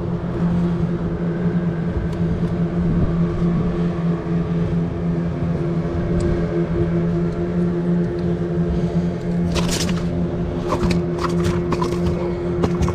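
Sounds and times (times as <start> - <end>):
engine hum: 0.0 - 12.9.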